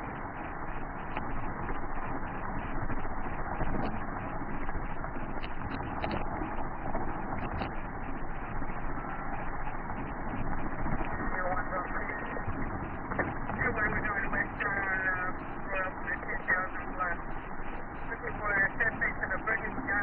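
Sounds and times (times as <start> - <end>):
muffled vehicle engine and road rumble: 0.0 - 20.0.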